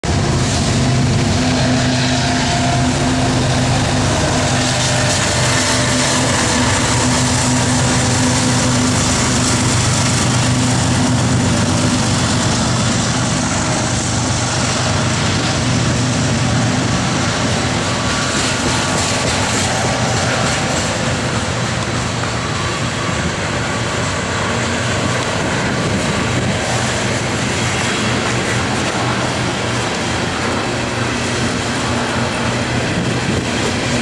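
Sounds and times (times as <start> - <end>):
freight train wheels clattering: 0.0 - 34.0
locomotive engine drone: 0.0 - 34.0.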